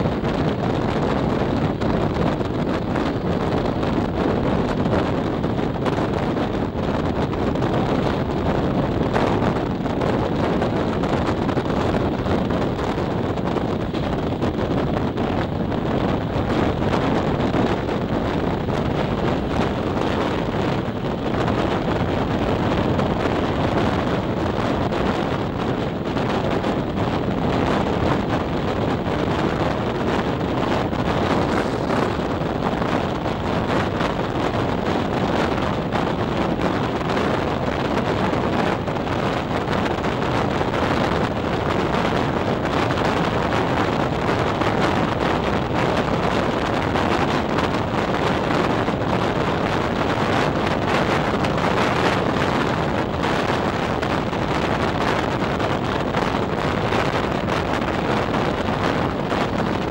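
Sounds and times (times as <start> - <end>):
train rumbling on track: 0.0 - 59.9
wind rushing over microphone: 0.0 - 59.9.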